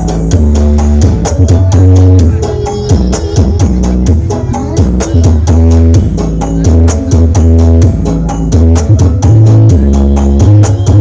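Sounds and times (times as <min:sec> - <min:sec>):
loud music through speakers: 0:00.0 - 0:11.0.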